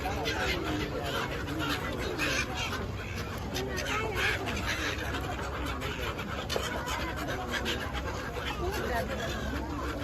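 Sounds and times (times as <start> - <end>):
gulls calling: 0.0 - 10.0
people's voices: 0.0 - 10.0.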